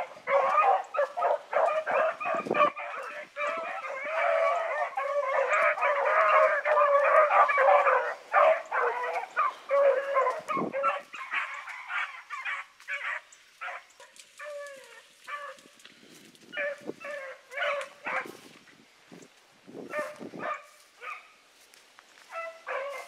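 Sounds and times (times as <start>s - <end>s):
dogs barking and baying: 0.0s - 15.8s, 16.4s - 18.6s, 19.9s - 21.4s, 22.2s - 23.0s.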